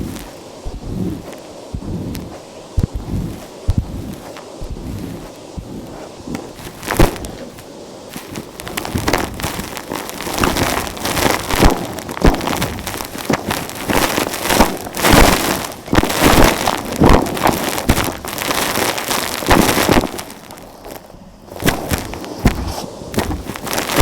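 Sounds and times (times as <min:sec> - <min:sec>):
vacuum cleaner sucking gritty dirt: 0:00.0 - 0:24.0.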